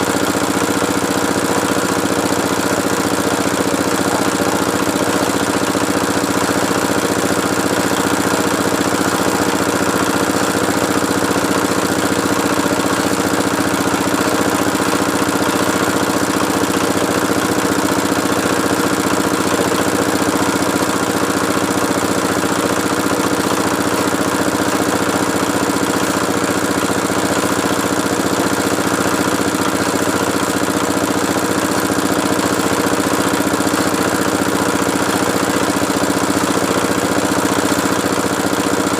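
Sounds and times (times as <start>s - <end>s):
drilling machine engine running: 0.0s - 38.9s.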